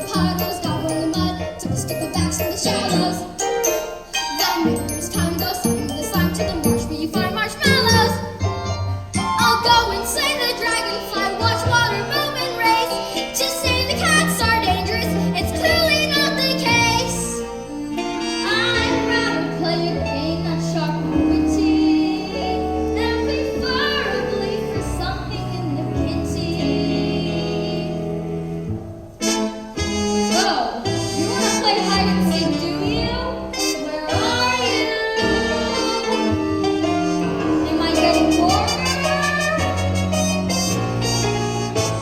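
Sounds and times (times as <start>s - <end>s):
musical backing track: 0.0s - 42.0s.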